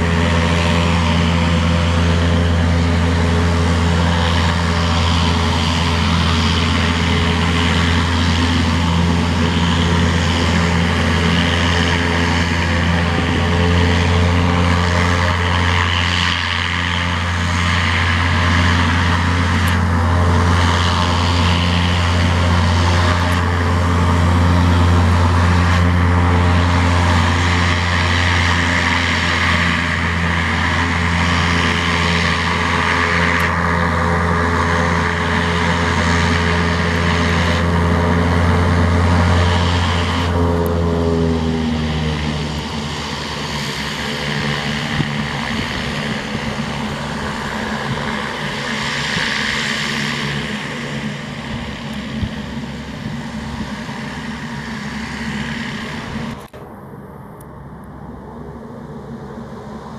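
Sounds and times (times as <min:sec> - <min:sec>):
propeller engine drone: 0:00.0 - 0:59.9.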